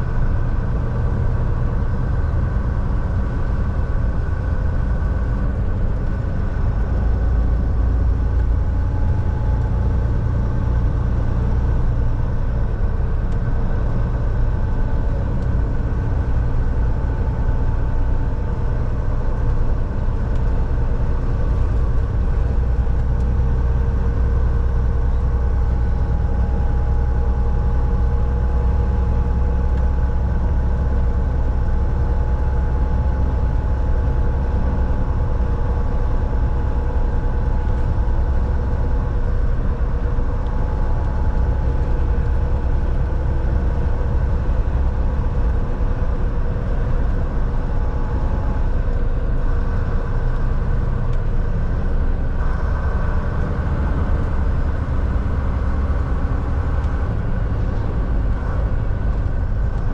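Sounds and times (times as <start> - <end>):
road noise: 0.0 - 59.9
truck engine drone: 0.0 - 59.9.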